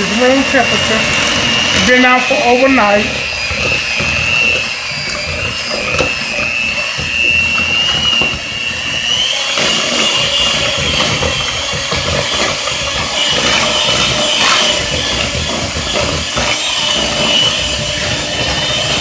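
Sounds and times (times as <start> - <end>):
electric hand mixer whining: 0.0 - 19.0.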